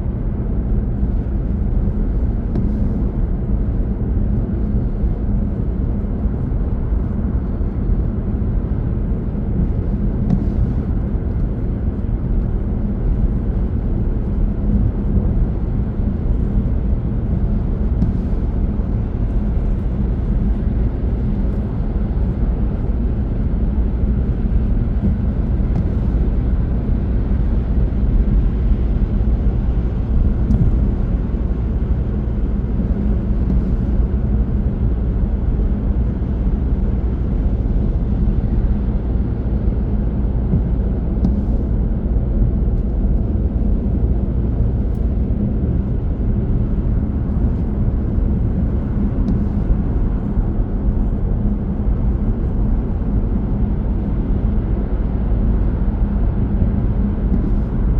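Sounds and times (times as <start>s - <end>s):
car tyre and engine rumble: 0.0s - 57.9s.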